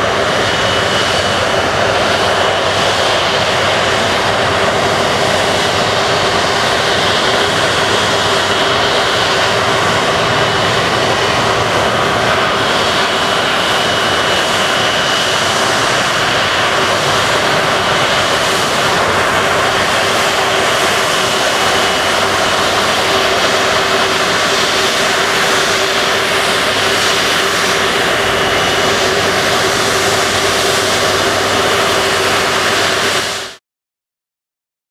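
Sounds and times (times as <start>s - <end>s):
jet engines running: 0.0s - 33.6s.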